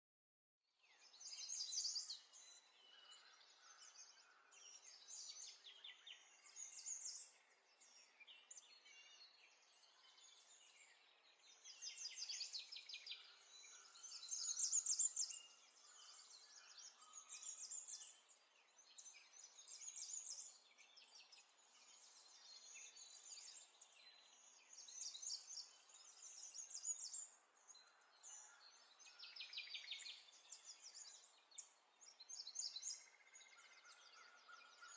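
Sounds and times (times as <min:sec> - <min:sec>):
small birds chirping: 0:00.8 - 0:34.9.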